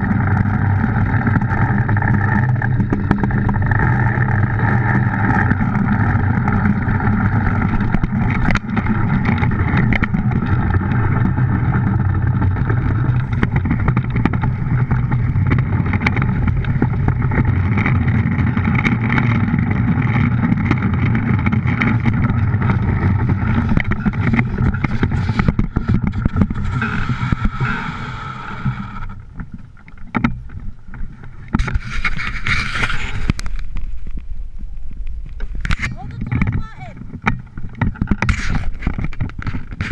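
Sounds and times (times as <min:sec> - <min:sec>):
runners rumbling over ice: 0:00.0 - 0:39.9
wind: 0:00.0 - 0:39.9.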